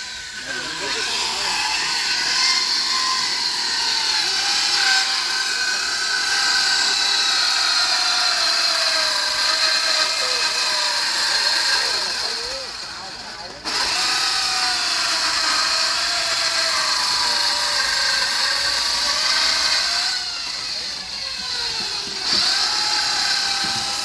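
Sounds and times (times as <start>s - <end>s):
electric planer shaving wood: 0.0s - 24.0s.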